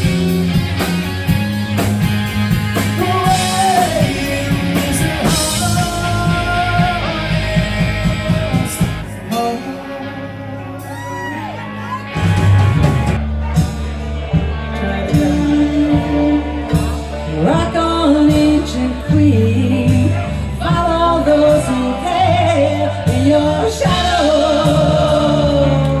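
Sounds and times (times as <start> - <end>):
electric guitar bending notes: 0.0 - 26.0
rock band playing: 0.0 - 26.0.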